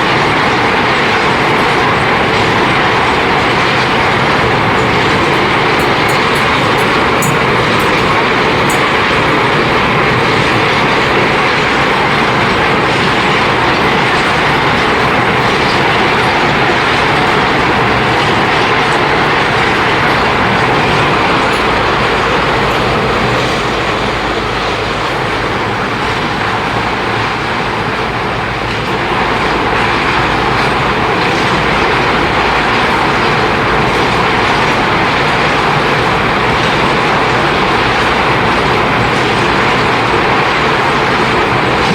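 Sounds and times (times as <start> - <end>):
ore-milling machinery clattering: 0.0 - 41.9.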